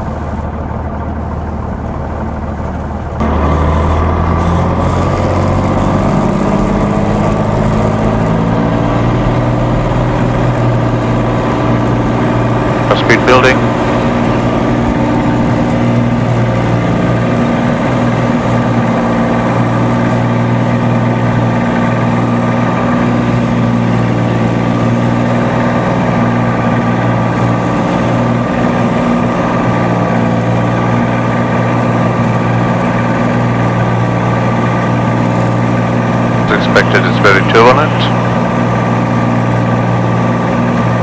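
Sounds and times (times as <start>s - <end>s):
airplane engine drone: 0.0s - 41.0s.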